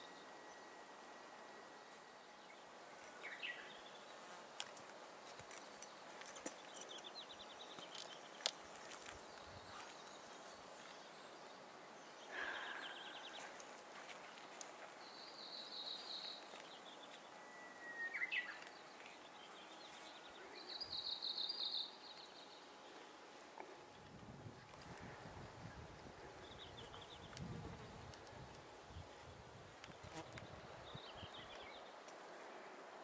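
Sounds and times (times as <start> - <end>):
faint steady hiss: 0.0 - 33.0.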